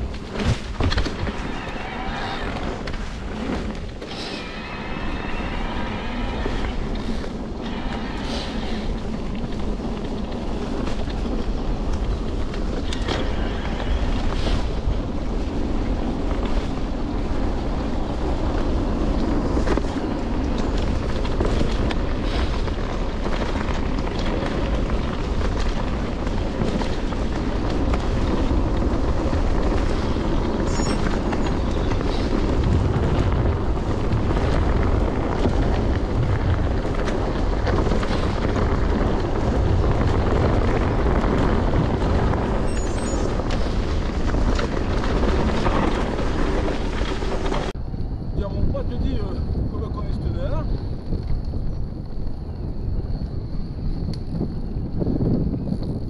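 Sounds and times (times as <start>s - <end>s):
bike rattling over bumps: 0.0s - 56.0s
tyres rumbling on dirt: 0.0s - 56.0s
wind on microphone: 0.0s - 56.0s.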